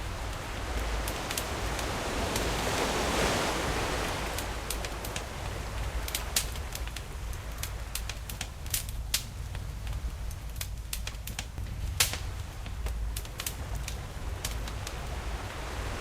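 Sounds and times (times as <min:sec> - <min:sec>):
ocean waves: 0:00.0 - 0:16.0
campfire crackling and popping: 0:00.2 - 0:02.8, 0:03.9 - 0:15.5.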